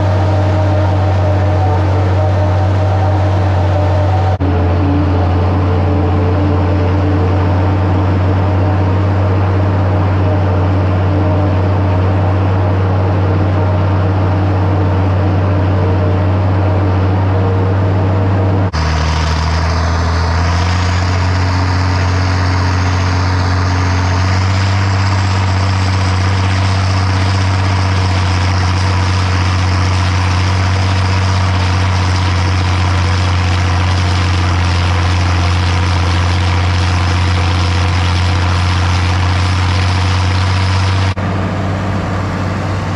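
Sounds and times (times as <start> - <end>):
harvester machinery noise: 0.0 - 42.9
tractor diesel engine drone: 0.0 - 42.9.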